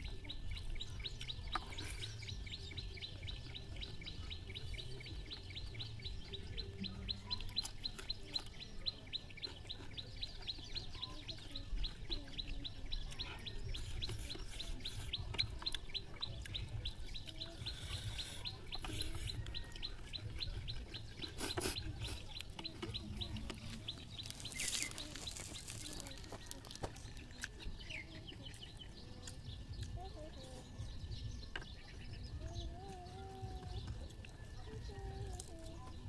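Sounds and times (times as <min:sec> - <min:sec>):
chewing: 0:00.1 - 0:30.6, 0:32.8 - 0:36.0.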